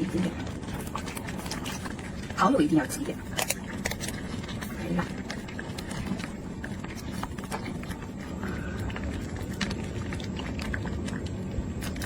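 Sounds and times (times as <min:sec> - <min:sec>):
congee bubbling in a clay pot: 0:00.0 - 0:12.0.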